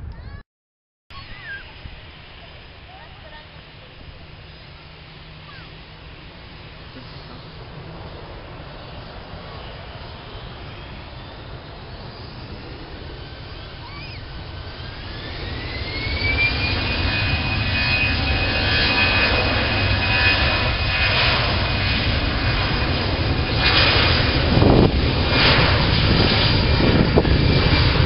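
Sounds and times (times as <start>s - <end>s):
jet engines spooling up: 1.2s - 28.0s.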